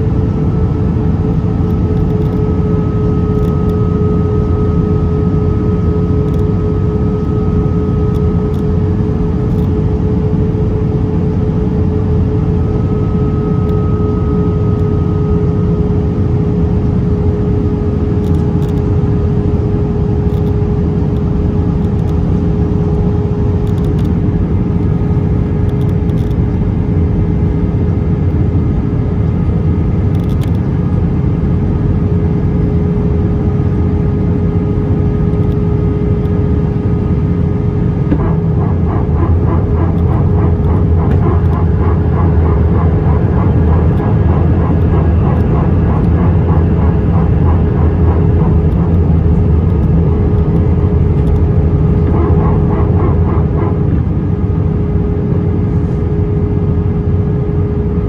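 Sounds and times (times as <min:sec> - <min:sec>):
aircraft engines humming: 0:00.0 - 0:58.0.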